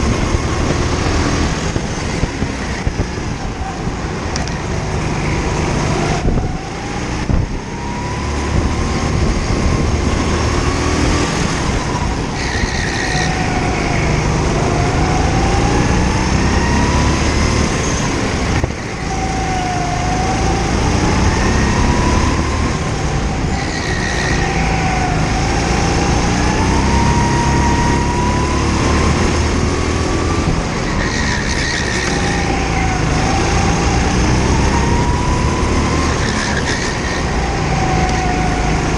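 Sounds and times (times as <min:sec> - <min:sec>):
kart engine accelerating: 0:00.0 - 0:38.9.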